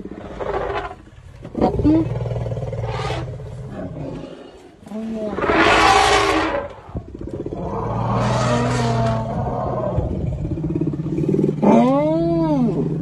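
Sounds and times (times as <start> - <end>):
elephant low rumbling call: 0.0 - 13.0.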